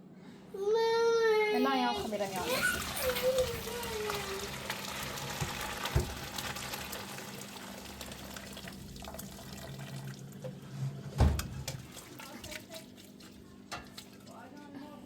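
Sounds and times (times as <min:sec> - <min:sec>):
running water: 0:01.8 - 0:14.7.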